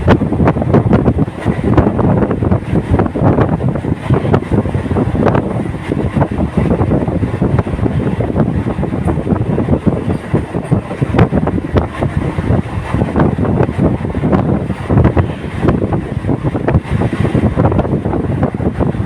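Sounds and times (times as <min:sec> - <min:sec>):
train wheels clattering on rails: 0:00.0 - 0:19.0
wind buffeting the microphone: 0:00.0 - 0:19.0.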